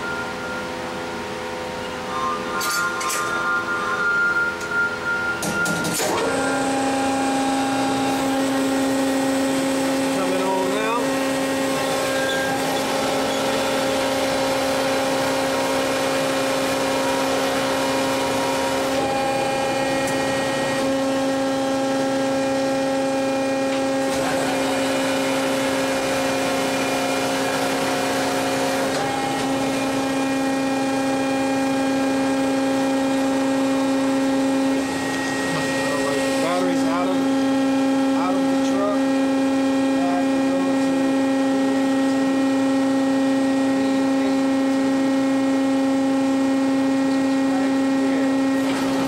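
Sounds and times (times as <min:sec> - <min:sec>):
electric machine hum and whine: 0:00.0 - 0:49.0.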